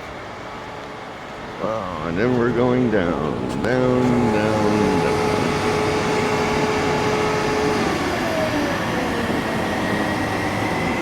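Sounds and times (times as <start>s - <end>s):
crane mechanical drone: 0.0s - 11.0s.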